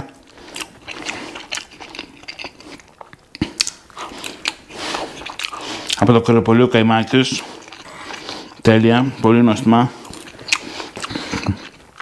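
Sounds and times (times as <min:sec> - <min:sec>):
person chewing with moist smacks: 0:00.0 - 0:06.1, 0:07.0 - 0:12.0.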